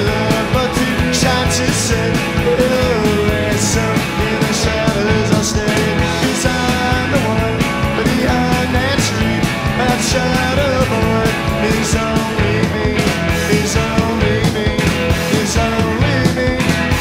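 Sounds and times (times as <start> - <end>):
rock band playing from vinyl: 0.0 - 17.0.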